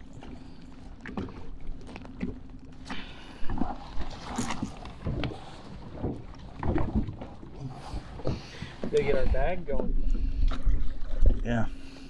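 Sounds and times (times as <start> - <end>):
knocks and clatter in boat: 0.0 - 12.0.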